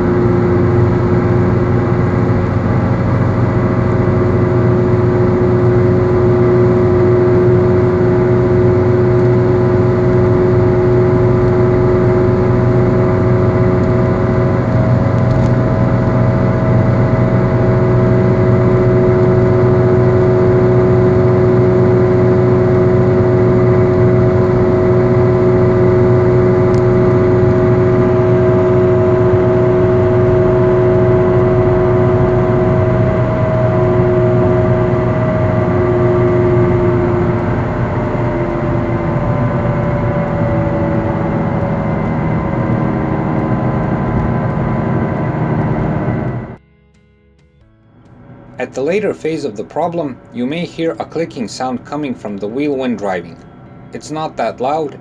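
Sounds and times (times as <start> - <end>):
car engine and tyre noise: 0.0 - 46.6.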